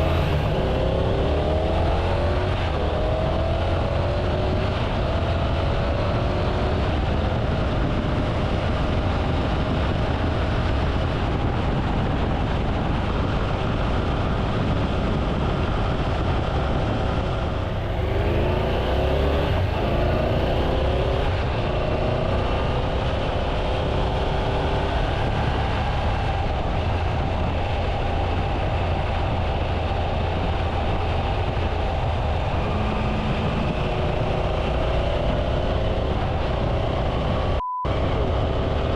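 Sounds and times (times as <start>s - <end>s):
low wind rumble: 0.0s - 38.9s
motorcycle engine running: 0.0s - 38.9s.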